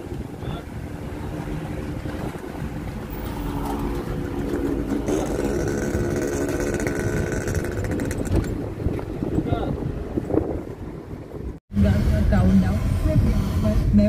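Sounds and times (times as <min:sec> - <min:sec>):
traffic noise: 0:00.0 - 0:14.0
engine drone: 0:00.6 - 0:14.0.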